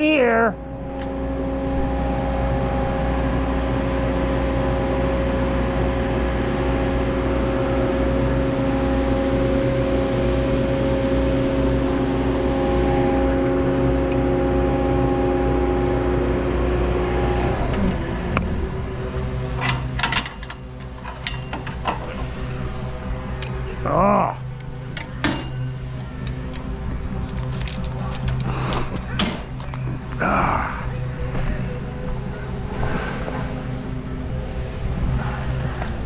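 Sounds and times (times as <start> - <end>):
engine running: 0.2 - 36.0.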